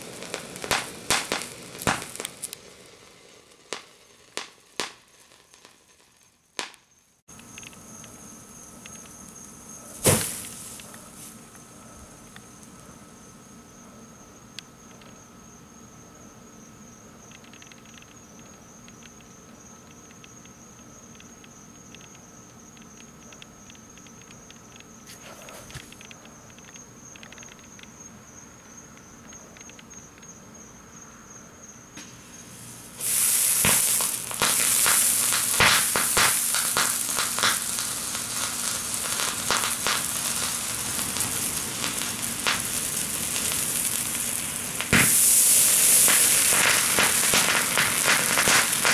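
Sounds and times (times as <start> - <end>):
fire crackling and hissing: 0.0 - 30.6, 31.7 - 48.9
insect trill: 0.0 - 48.9.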